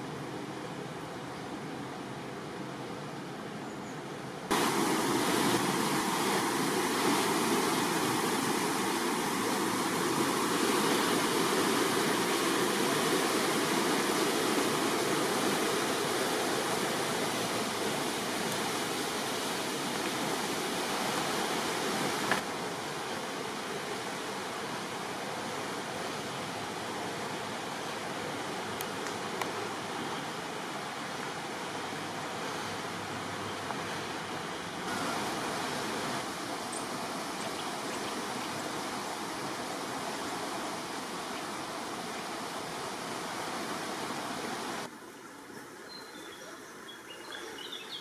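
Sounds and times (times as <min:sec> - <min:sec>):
fast-flowing river rushing: 0:04.4 - 0:45.2.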